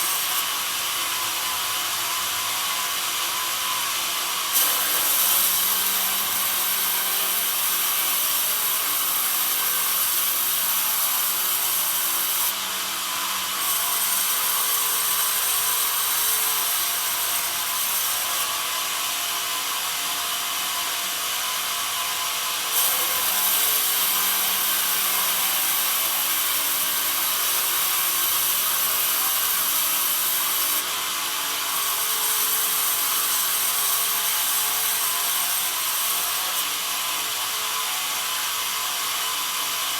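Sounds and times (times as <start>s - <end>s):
bandsaw blade cutting wood: 0.0s - 39.9s.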